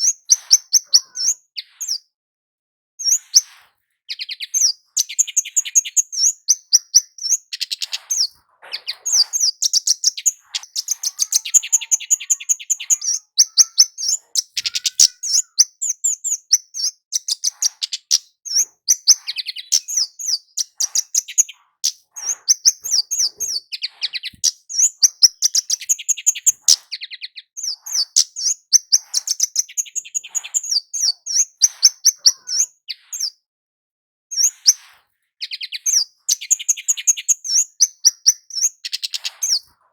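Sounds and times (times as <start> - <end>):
bird singing high sharp chips: 0.0 - 2.1, 3.0 - 33.4, 34.3 - 39.7.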